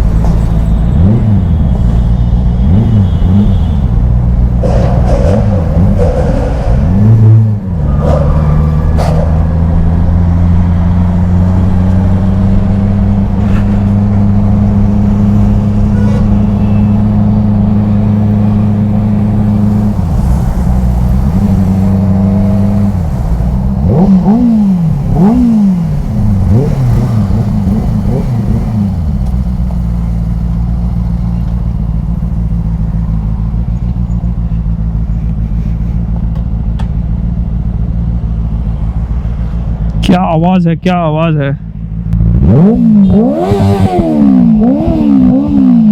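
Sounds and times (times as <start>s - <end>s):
motorcycle engine revving: 0.0s - 40.2s, 41.8s - 45.9s.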